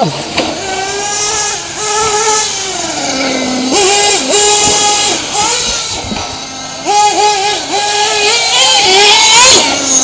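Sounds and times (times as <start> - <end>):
small nitro engines revving: 0.0 - 10.0.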